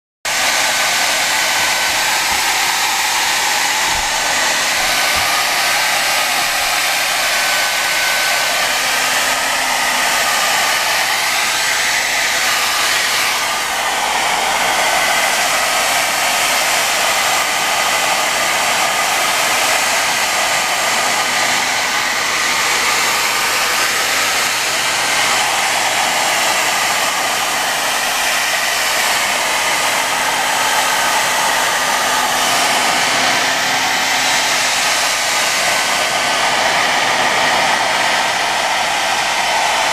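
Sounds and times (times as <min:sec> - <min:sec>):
hair dryer running: 0:00.3 - 0:39.9.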